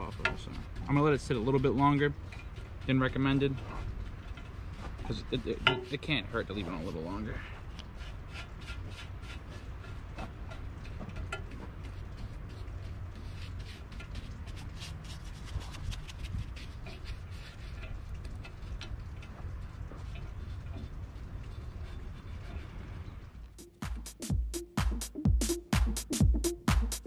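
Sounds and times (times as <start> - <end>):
bristle brush scrubbing metal: 0.0 - 23.0
low steady rumble: 0.0 - 25.5.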